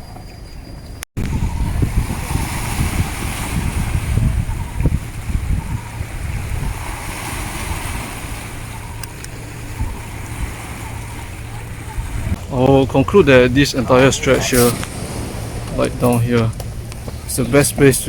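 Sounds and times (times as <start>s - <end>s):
wind buffeting microphone: 0.0s - 18.0s
waves hissing at seawall: 1.2s - 18.0s.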